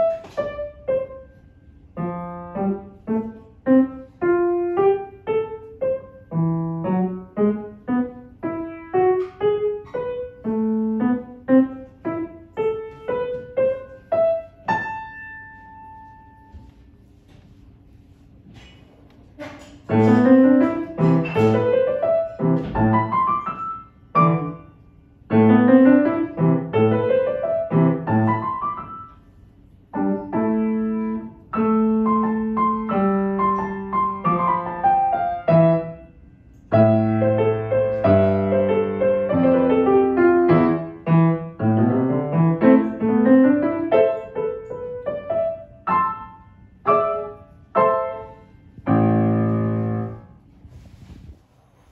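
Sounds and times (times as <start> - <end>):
child playing piano: 0.0 - 16.5, 19.4 - 29.2, 29.9 - 36.1, 36.7 - 50.2.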